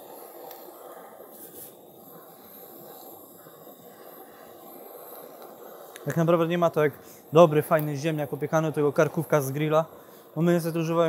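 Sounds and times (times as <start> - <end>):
blowtorch hissing: 0.0 - 11.0.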